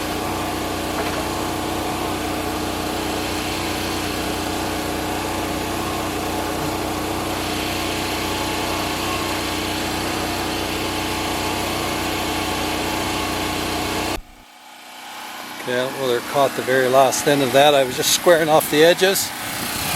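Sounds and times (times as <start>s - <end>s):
sawmill engine running under load: 0.0s - 19.9s.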